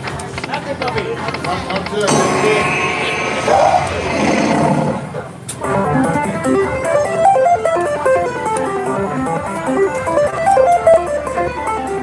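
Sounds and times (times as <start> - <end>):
plucked string slot machine music: 1.3 - 12.0.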